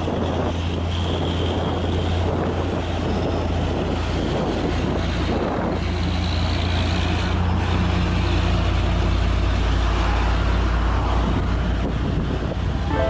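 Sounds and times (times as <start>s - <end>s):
diesel truck engine under load: 0.0s - 12.9s
road noise: 0.0s - 13.0s.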